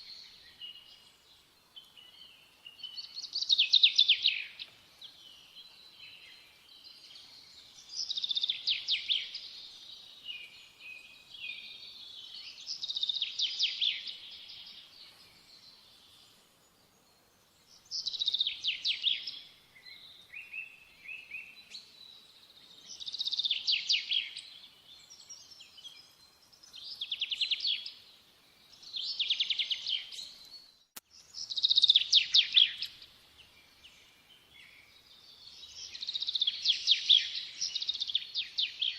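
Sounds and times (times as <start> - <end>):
soft bird chirps: 0.0 - 38.9.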